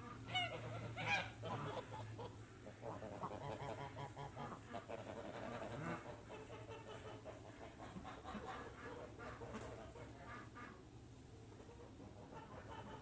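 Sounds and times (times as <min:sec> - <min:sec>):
geese honking: 0:00.0 - 0:10.8, 0:11.5 - 0:13.0
chickens clucking: 0:00.0 - 0:13.0
steady low hum: 0:00.0 - 0:13.0.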